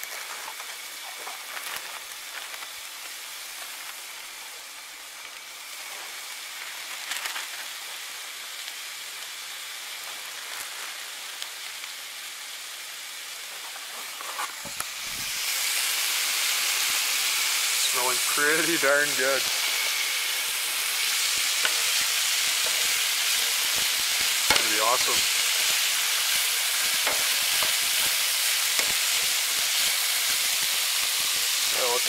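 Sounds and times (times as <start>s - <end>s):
meat sizzling in a frying pan: 0.0s - 32.0s.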